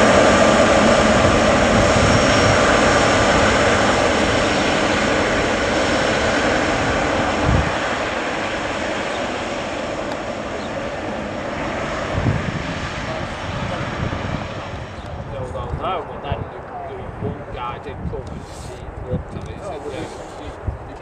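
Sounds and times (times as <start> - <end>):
jet engines with high whine: 0.0 - 21.0.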